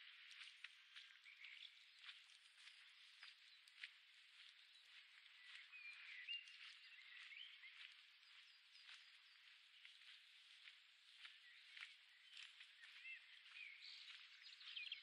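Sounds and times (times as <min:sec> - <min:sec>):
birds chirping: 0:00.0 - 0:15.0
footsteps on path: 0:00.0 - 0:15.0.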